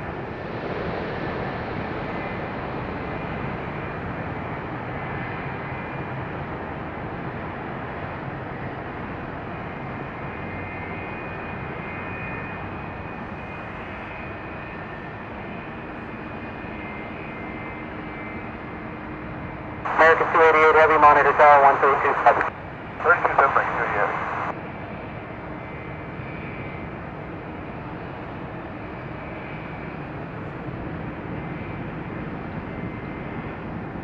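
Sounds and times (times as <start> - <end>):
airliner jet engines landing: 0.0 - 34.0.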